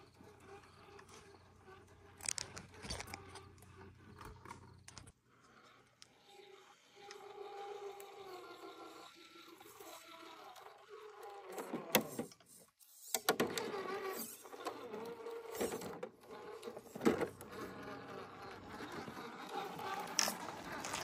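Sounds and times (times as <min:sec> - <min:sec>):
small electric motor whining: 0:00.0 - 0:21.0.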